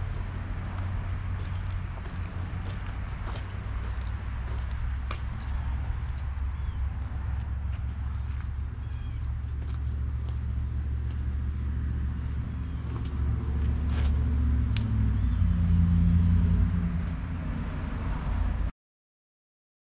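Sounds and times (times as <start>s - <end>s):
motor vehicle rumble: 0.0s - 18.7s.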